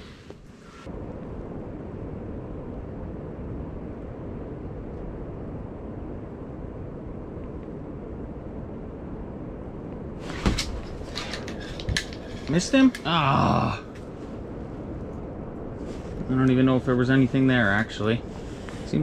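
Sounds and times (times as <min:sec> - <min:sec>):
wind rumbling against shack: 0:00.0 - 0:19.0.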